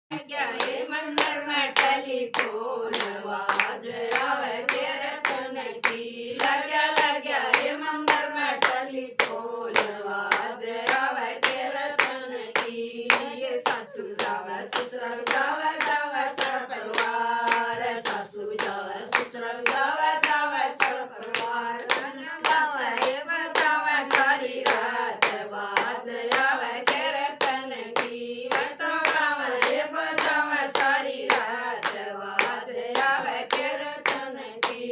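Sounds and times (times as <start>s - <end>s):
rhythmic handclaps: 0.1s - 34.9s
voices singing devotional song: 0.1s - 34.9s.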